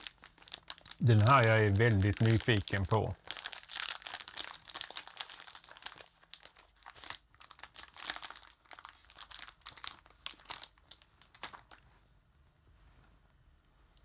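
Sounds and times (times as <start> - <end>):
plastic bag crackling: 0.0 - 11.8.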